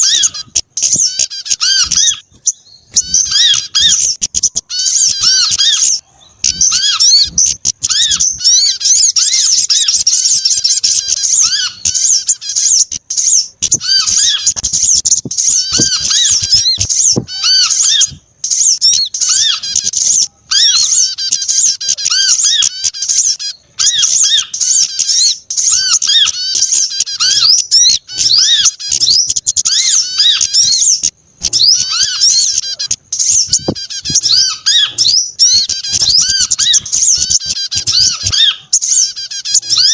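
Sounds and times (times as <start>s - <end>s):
lower repeated bird call: 0.0s - 39.9s
songbirds chirping and twittering: 0.0s - 39.9s.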